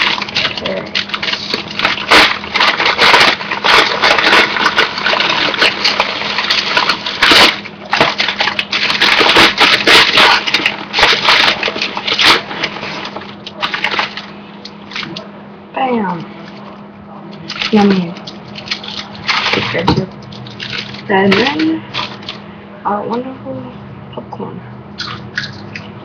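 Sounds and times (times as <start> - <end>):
popcorn rustling in paper bowl: 0.0 - 15.4, 16.2 - 22.5.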